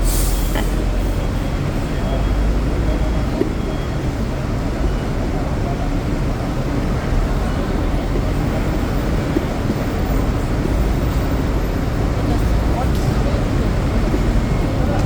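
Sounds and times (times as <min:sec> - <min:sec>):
buses passing: 0:00.0 - 0:15.0
street traffic rumble: 0:00.0 - 0:15.0.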